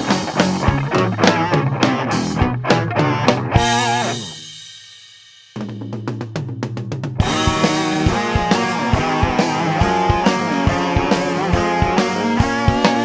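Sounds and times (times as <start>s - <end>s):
instrumental rock band playing: 0.0s - 4.9s, 7.1s - 13.0s.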